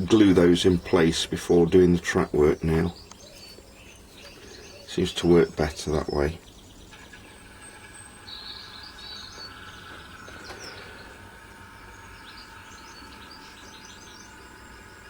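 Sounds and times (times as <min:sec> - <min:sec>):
low background hum and hiss: 0:00.0 - 0:15.0
small birds chirping: 0:00.0 - 0:15.0.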